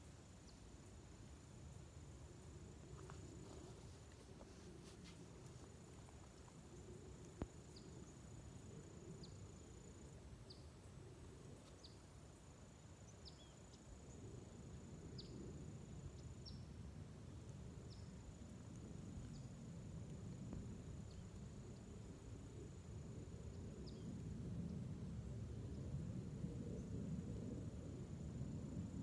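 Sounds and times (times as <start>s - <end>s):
faint steady high whine: 0.0s - 29.0s
low rumble of wind: 0.0s - 29.0s.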